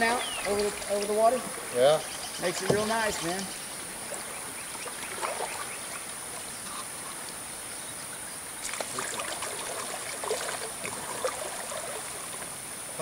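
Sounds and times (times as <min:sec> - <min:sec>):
kayak paddles splashing: 0:00.0 - 0:13.0
water trickling: 0:00.0 - 0:13.0.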